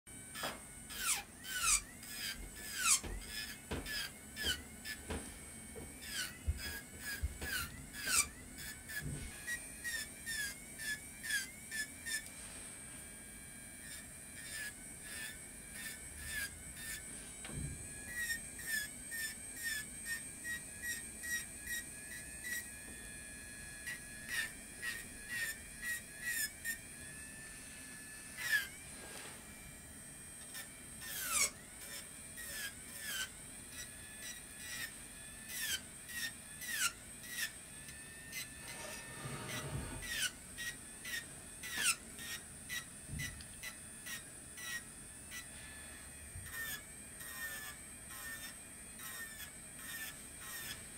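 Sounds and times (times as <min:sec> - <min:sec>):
electric nail drill whining: 0:00.1 - 0:50.9.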